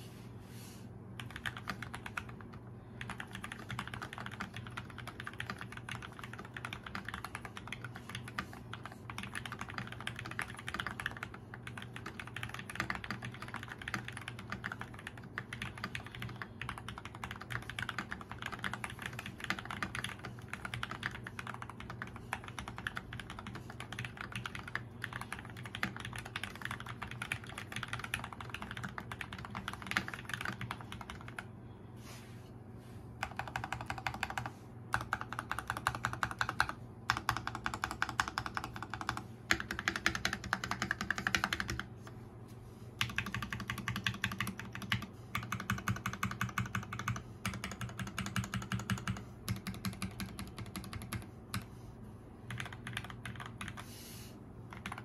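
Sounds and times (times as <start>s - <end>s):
mechanical keyboard typing: 1.2s - 31.5s, 33.2s - 41.9s, 43.0s - 51.7s, 52.5s - 53.8s, 54.7s - 55.0s.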